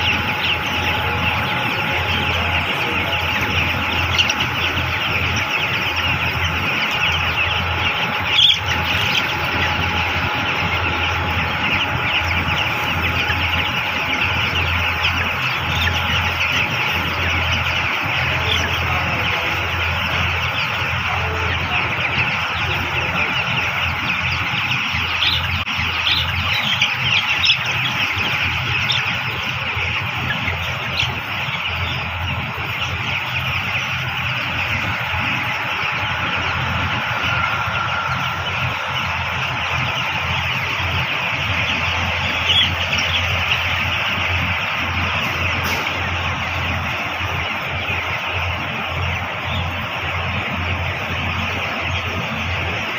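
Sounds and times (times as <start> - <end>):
chicks peeping: 0.0 - 52.9
low machine hum: 0.0 - 52.9.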